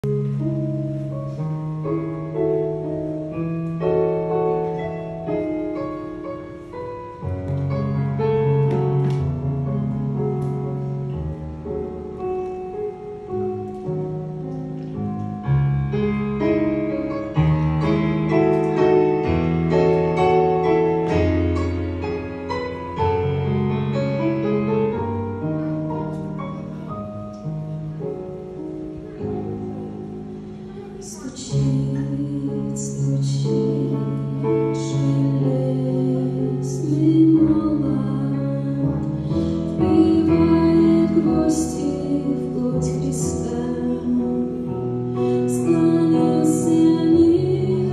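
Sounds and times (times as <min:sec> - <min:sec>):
slow piano chords: 0:00.0 - 0:47.9.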